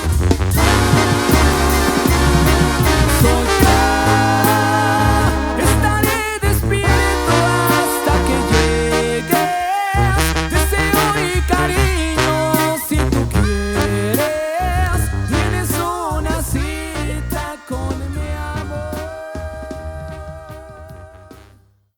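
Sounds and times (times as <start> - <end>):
heavy bass line: 0.0 - 21.6
wind instruments playing melody: 0.0 - 21.6.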